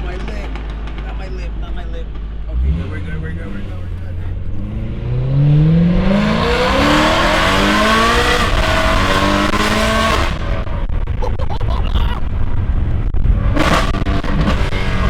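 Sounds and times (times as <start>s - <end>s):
car engine accelerating hard: 0.0s - 11.2s, 12.2s - 15.0s.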